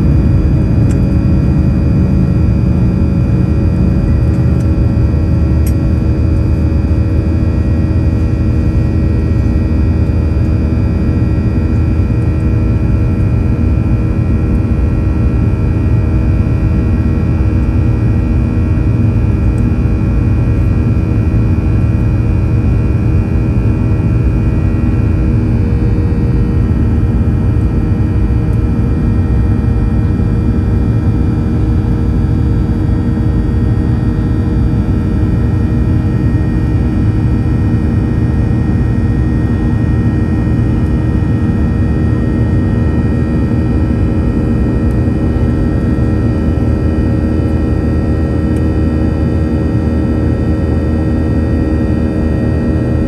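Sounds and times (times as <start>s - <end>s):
jet engine rumble and whine: 0.0s - 53.0s.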